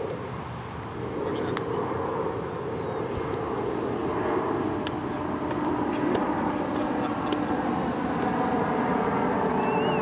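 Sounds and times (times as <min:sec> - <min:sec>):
faint hum: 0:00.0 - 0:10.0
steady engine-like roar: 0:00.0 - 0:10.0.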